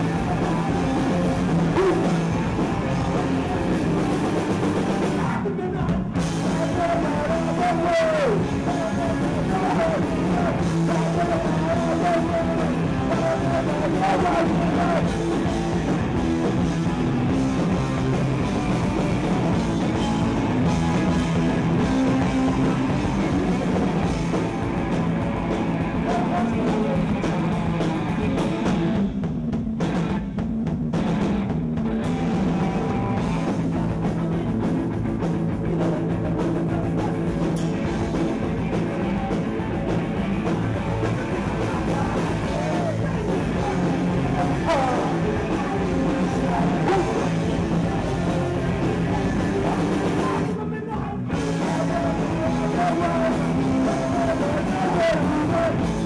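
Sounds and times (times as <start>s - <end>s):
singer shouting: 0.0s - 29.0s, 35.6s - 56.0s
bass guitar: 0.0s - 56.0s
drum kit: 0.0s - 56.0s
electric guitar: 0.0s - 56.0s.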